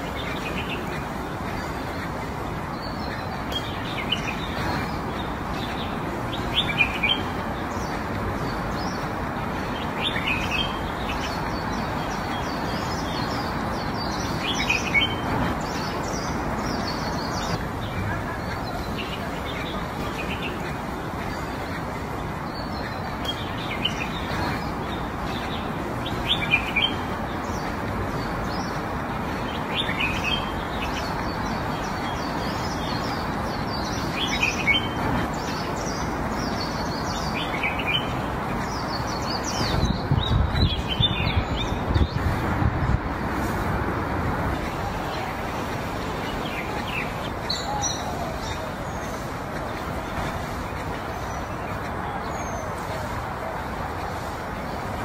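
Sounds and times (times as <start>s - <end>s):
outdoor background hiss: 0.0s - 55.0s
small birds chirping: 0.0s - 55.0s.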